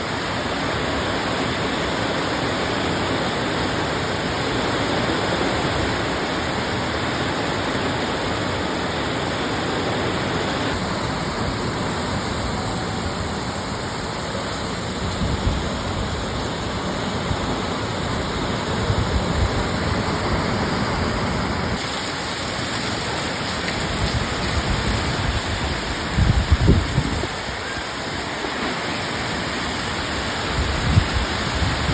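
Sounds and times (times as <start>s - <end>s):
heavy rain pouring: 0.0s - 31.9s
strong wind: 0.0s - 31.9s.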